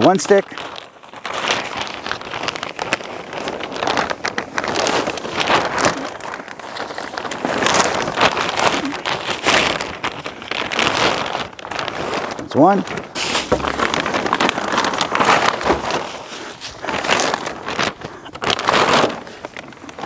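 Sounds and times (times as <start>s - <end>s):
plastic bin liners rustling: 0.0s - 20.0s.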